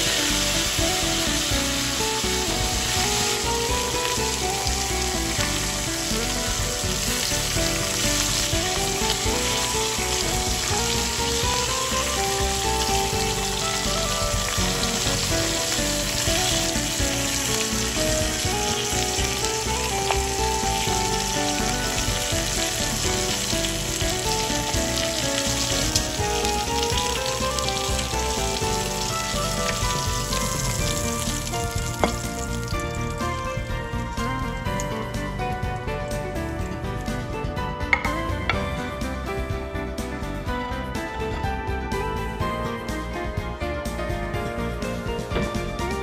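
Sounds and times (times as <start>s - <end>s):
steak sizzling in pan: 0.0s - 38.9s.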